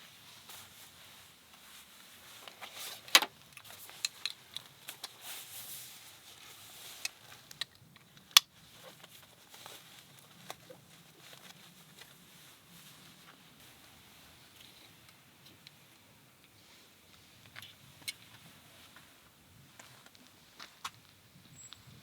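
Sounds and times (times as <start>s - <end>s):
clicks and rustles of handling: 0.4s - 19.1s.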